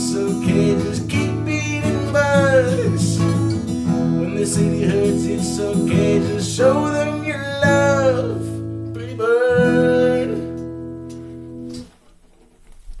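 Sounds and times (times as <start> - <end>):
person singing: 0.0 - 10.7
acoustic guitar strumming: 0.0 - 11.9.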